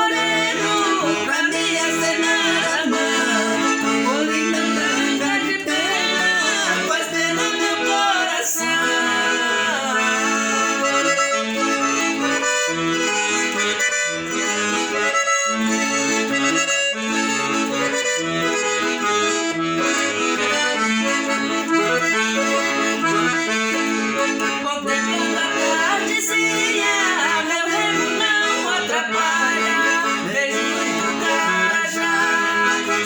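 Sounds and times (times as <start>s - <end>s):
accordion: 0.0s - 33.0s.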